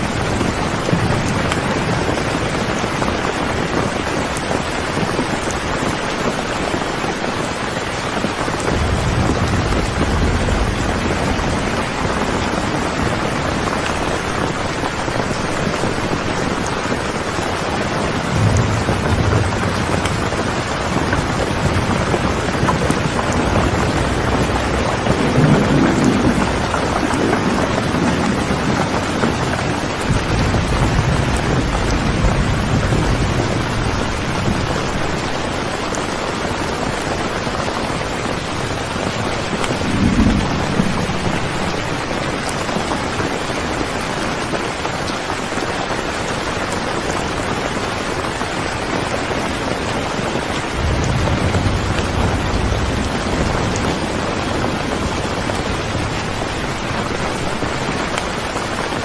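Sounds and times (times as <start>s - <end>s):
low thunder rolls: 0.0s - 6.1s, 6.7s - 44.2s, 50.2s - 58.9s
heavy rain: 0.0s - 59.0s.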